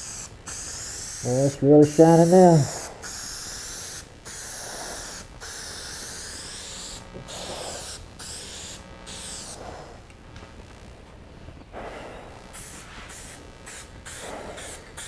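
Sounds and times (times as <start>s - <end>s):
spray can hissing: 0.0s - 10.0s, 11.8s - 15.0s.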